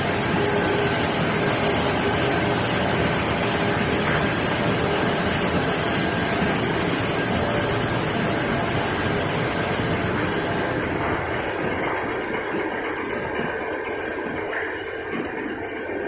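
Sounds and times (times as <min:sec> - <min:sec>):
laminating machine running: 0:00.0 - 0:16.0.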